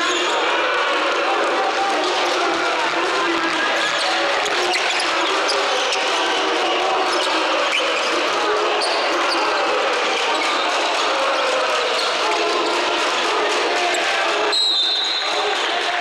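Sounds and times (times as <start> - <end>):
echoing crowd voices: 0.0 - 16.0.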